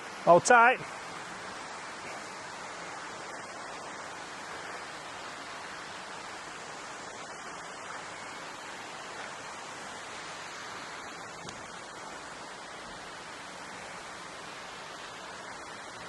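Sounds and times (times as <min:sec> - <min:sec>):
water rushing through lock paddles: 0:00.0 - 0:16.0.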